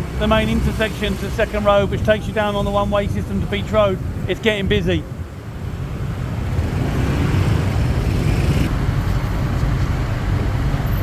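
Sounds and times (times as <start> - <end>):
motorbike engine and road noise: 0.0 - 11.0.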